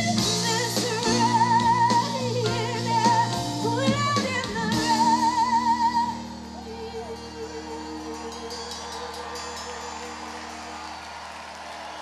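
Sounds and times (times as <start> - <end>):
woman singing with vibrato: 0.0 - 10.9
pop-rock band playing: 0.0 - 11.0.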